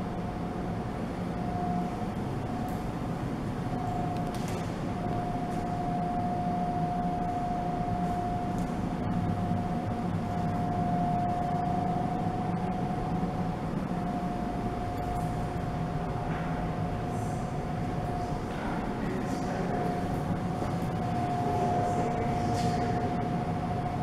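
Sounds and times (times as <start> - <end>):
constant high-pitched tone: 0.0 - 24.0
low machine hum: 0.0 - 24.0.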